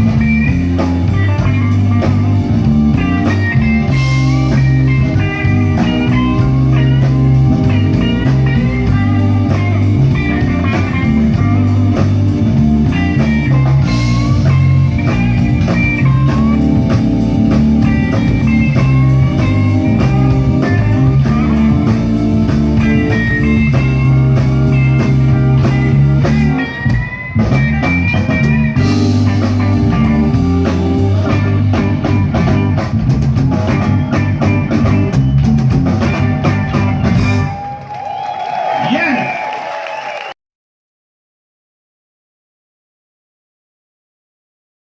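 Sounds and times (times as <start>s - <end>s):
lead electric guitar: 0.0s - 37.9s
bass guitar: 0.0s - 39.0s
drum kit: 0.0s - 40.2s.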